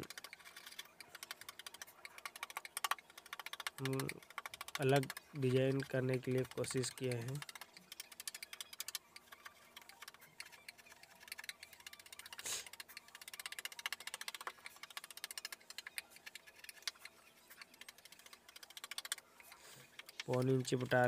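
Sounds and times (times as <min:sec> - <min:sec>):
chisel shaving wood: 0:00.0 - 0:17.0.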